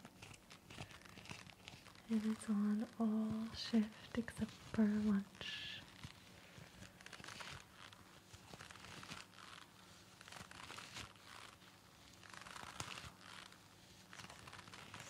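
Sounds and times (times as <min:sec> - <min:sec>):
surgical mask crinkling: 0:00.0 - 0:15.0.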